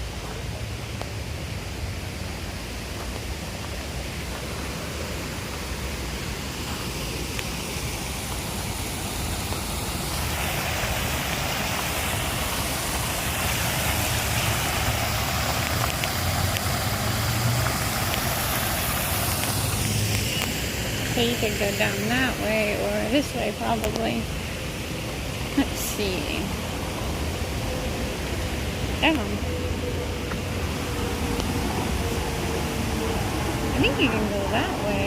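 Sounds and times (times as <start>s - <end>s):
waterfall rushing water: 0.0s - 35.0s.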